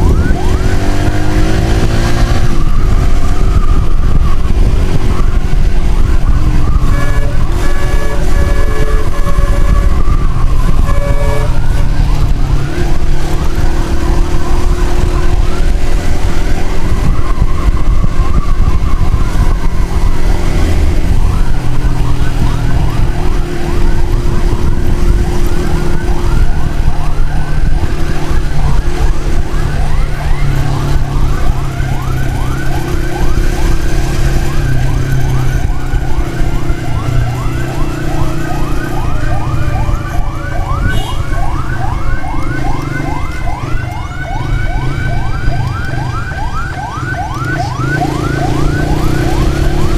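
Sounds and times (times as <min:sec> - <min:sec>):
siren yelping: 0:00.0 - 0:49.9
slower siren tone: 0:00.0 - 0:49.9
wind and road rush: 0:00.0 - 0:49.9.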